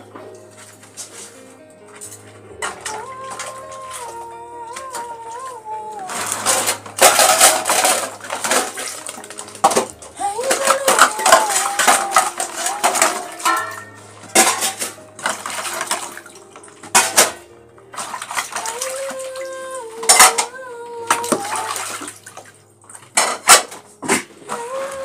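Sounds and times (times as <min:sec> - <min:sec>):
dishes clinking in a basin: 0:00.0 - 0:05.4, 0:06.1 - 0:25.0
water splashing and pouring: 0:02.6 - 0:25.0.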